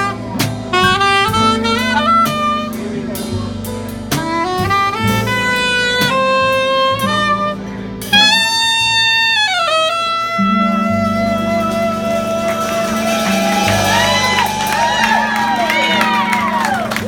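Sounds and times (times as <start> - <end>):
band accompaniment: 0.0 - 17.0
soprano saxophone jazz melody: 0.0 - 17.0.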